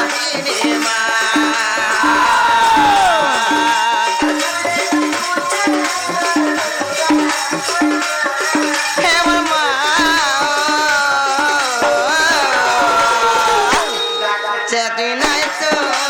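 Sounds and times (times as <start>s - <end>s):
folk percussion beat: 0.0s - 16.0s.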